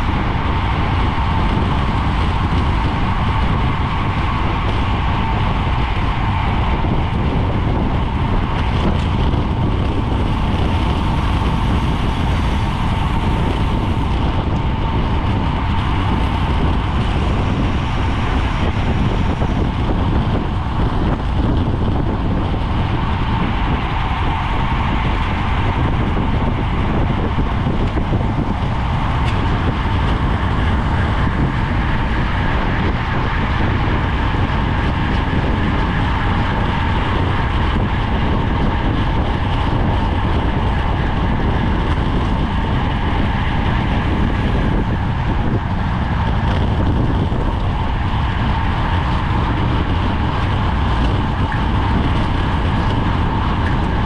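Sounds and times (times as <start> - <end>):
road noise: 0.0 - 54.0
wind rushing on microphone: 0.0 - 54.0.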